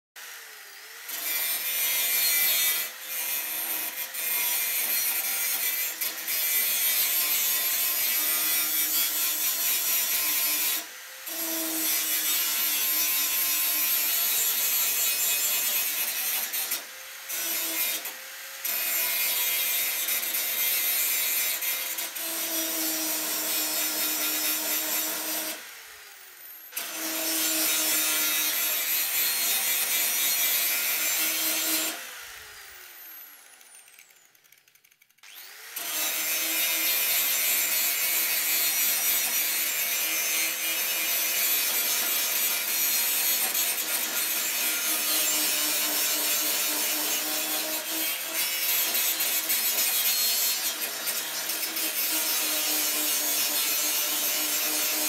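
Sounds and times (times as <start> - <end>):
electric grinder running: 0.2 - 55.0.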